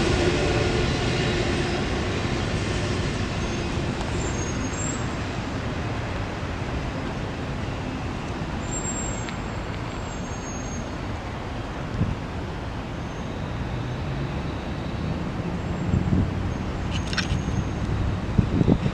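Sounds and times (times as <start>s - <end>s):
freight train rumbling on rails: 0.0s - 12.9s, 13.5s - 18.9s.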